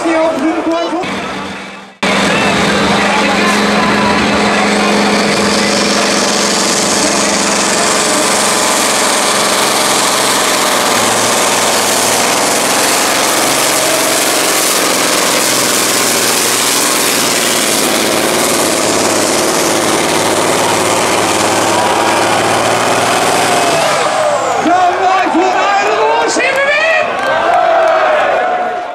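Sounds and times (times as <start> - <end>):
diesel truck engine at full load: 0.0 - 28.4.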